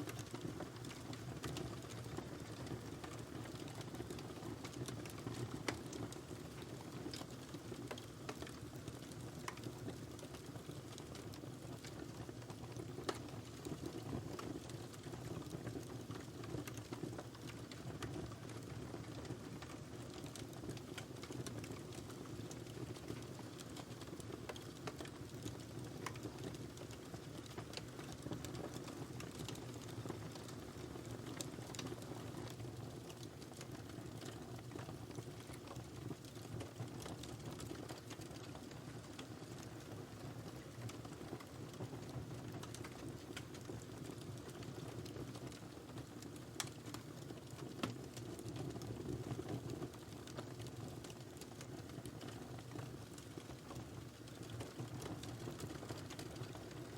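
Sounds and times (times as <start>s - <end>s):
fire burning in fireplace: 0.0s - 56.9s.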